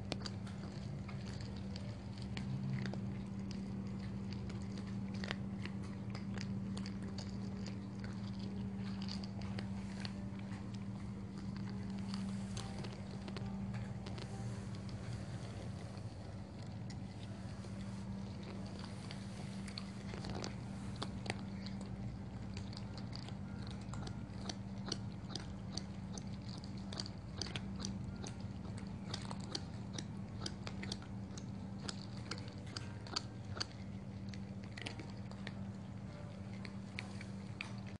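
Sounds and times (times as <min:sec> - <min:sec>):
cats crunching dry kibble: 0:00.0 - 0:37.9
low hum: 0:00.0 - 0:37.9.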